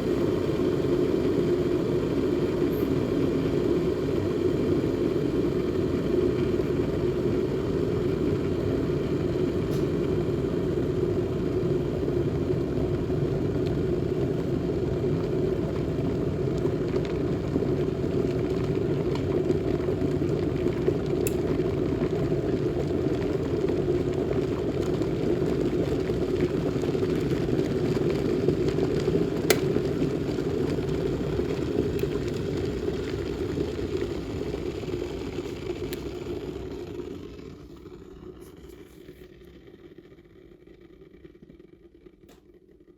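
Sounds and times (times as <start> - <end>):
kettle boiling water: 0.0 - 42.9.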